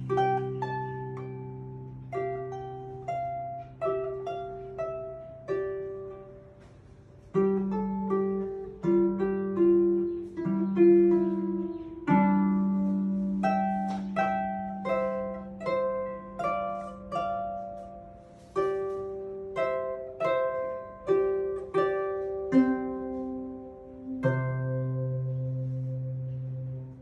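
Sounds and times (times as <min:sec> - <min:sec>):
harp plucked melody: 0:00.0 - 0:27.0
sustained harp bass notes: 0:00.0 - 0:27.0.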